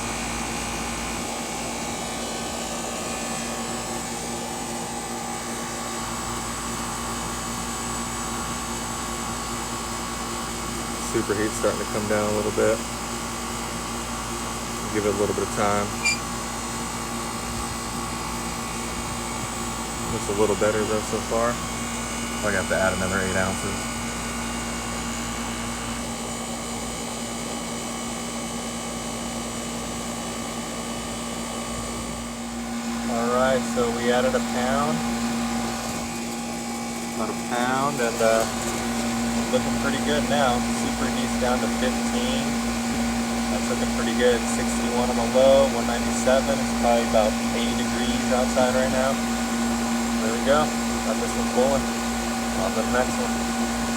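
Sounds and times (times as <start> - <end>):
air conditioner unit humming: 0.0 - 53.9.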